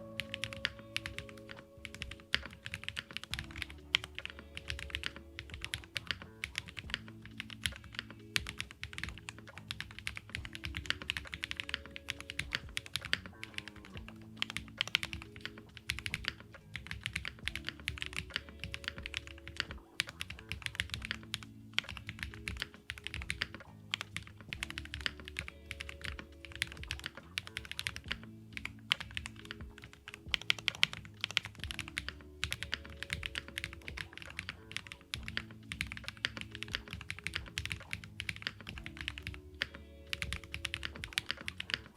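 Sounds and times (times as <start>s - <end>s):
lo-fi background music: 0.0s - 41.9s
mechanical keyboard typing: 0.0s - 41.9s.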